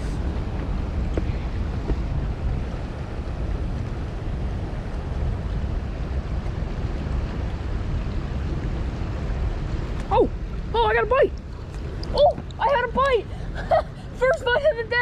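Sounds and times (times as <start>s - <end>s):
water rushing over rocks: 0.0s - 15.0s
wind buffeting microphone: 0.0s - 15.0s.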